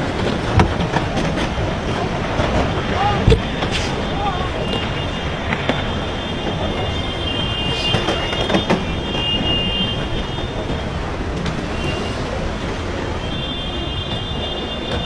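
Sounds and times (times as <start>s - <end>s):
floodwater rushing roar: 0.0s - 15.0s.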